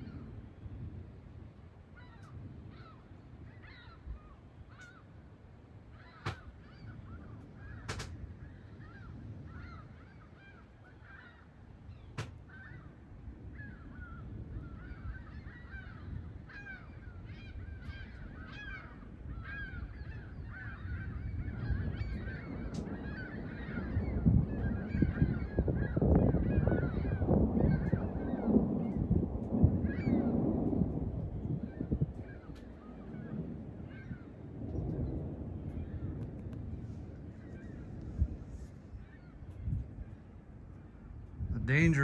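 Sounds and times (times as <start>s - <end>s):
low storm rumble: 0.0s - 42.0s.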